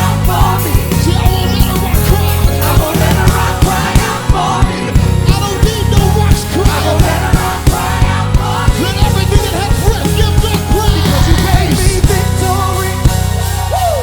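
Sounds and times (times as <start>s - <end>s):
gospel band playing: 0.0s - 14.0s
people singing: 0.0s - 14.0s.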